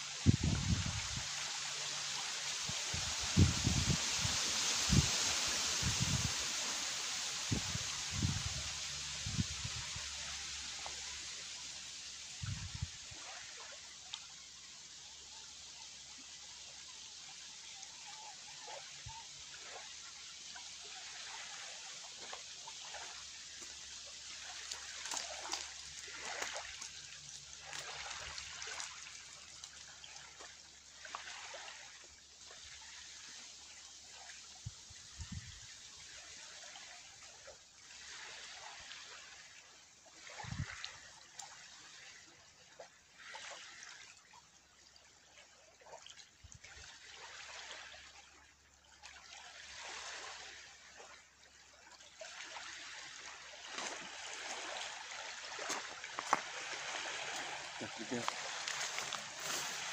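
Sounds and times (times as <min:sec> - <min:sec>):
water lapping and trickling: 0:00.0 - 0:59.9.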